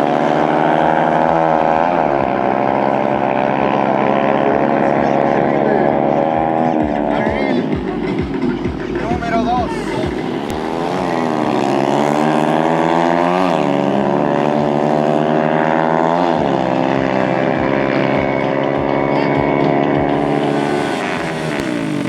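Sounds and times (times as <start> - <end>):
dirt bike engine accelerating: 0.0 - 22.0.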